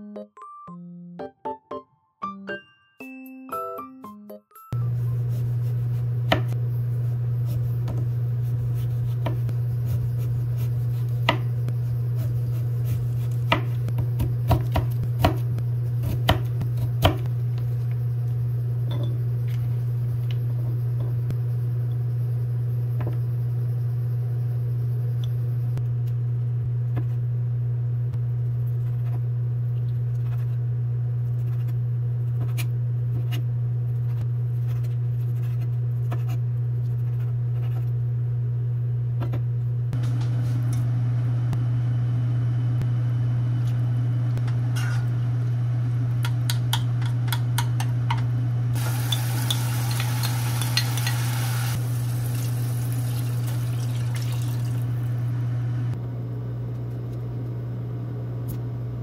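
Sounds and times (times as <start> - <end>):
steady low hum: 4.8 - 59.0.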